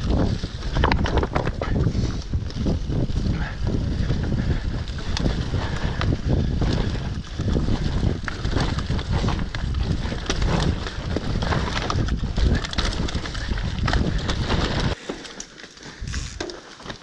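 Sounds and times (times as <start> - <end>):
wind noise on microphone: 0.0 - 15.0, 15.9 - 16.4
bike rattling: 0.0 - 17.0
bike tyres rumbling on dirt: 0.0 - 17.0.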